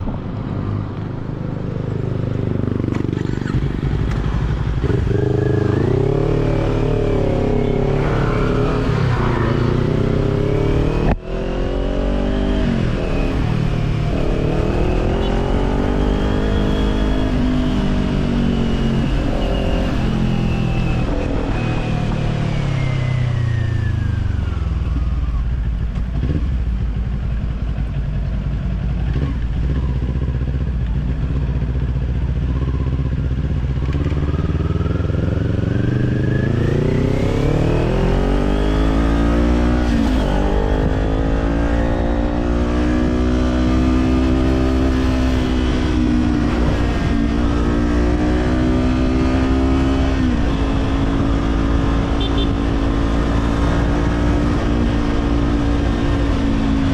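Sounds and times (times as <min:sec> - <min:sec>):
motorcycle engine: 0:00.0 - 0:56.9.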